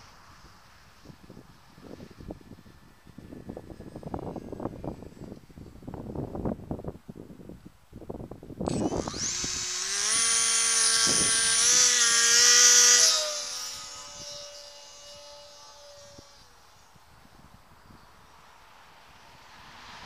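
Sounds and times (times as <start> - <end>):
electric motor and propeller whine: 0.0 - 6.0, 8.6 - 20.0
wind buffeting microphone: 0.4 - 18.4.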